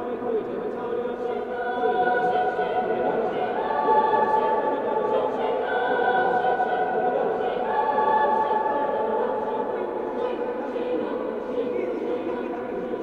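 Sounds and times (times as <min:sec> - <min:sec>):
mixed choir singing: 0:00.0 - 0:13.0.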